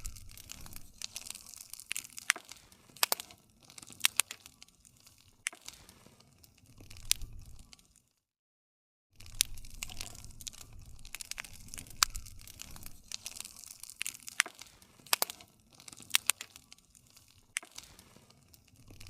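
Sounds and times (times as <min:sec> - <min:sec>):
low rumble of flames: 0:00.0 - 0:08.2, 0:09.2 - 0:19.0
campfire crackling and popping: 0:00.0 - 0:08.3, 0:09.2 - 0:19.0.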